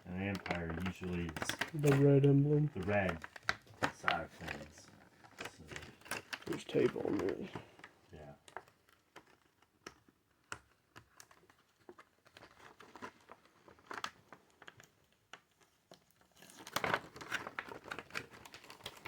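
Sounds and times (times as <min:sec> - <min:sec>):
plastic packaging crinkling: 0:00.0 - 0:19.0
tape being peeled: 0:00.0 - 0:19.0.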